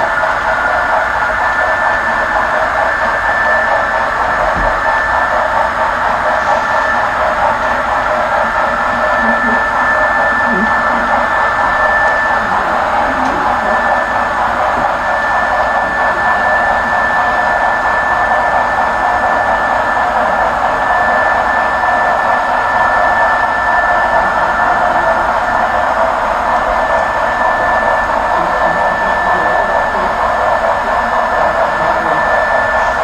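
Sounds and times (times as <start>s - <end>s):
high whine: 0.0s - 33.0s
model train wheels whirring: 0.0s - 33.0s.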